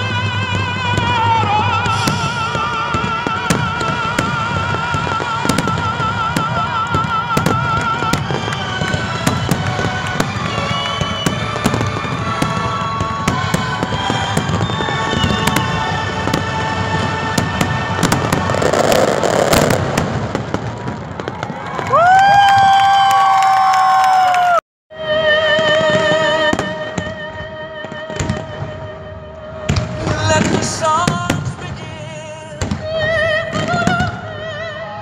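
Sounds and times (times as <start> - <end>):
fireworks bangs and crackles: 0.0 - 23.6, 25.2 - 35.0.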